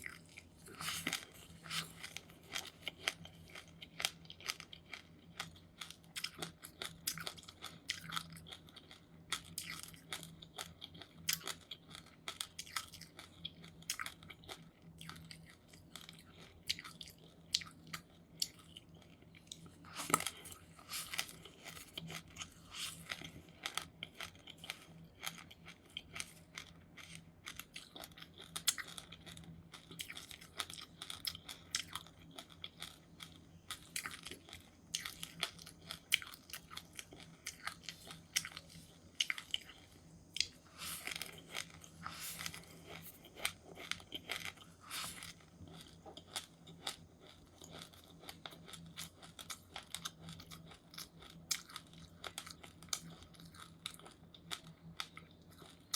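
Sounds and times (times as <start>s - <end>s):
crunching seeds: 0.0s - 55.9s.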